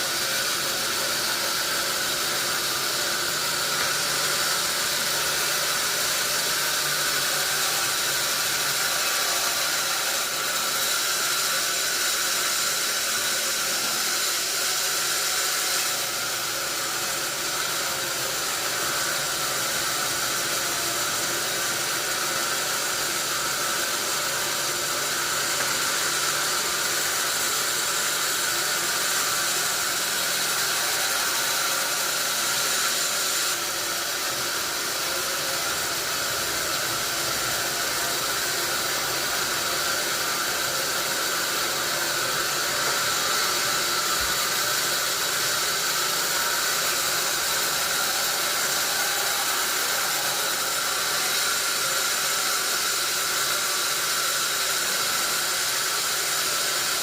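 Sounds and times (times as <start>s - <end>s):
sawmill saw hissing: 0.0s - 57.0s.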